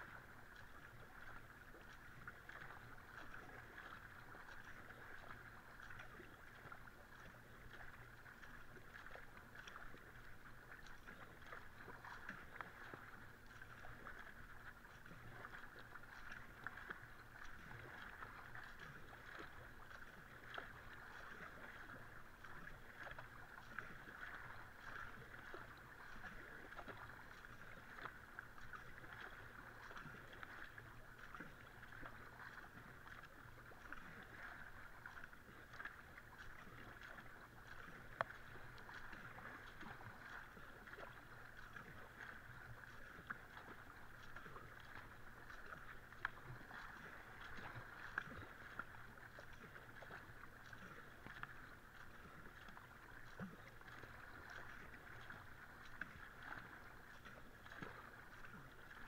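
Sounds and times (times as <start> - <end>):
paddle splashes and drips: 0.0 - 59.0.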